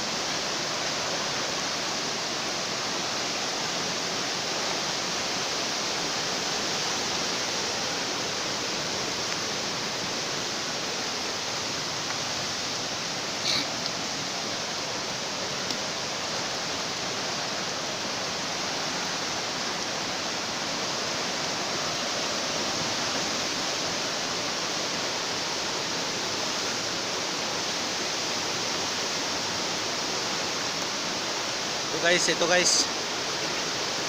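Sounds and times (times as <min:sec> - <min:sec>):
heavy rain and floodwater rushing: 0:00.0 - 0:34.0.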